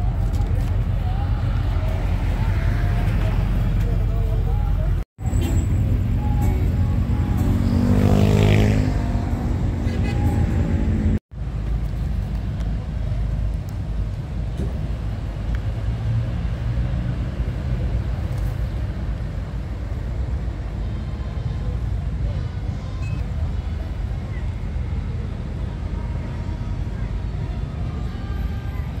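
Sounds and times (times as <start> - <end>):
low traffic rumble: 0.0 - 29.0.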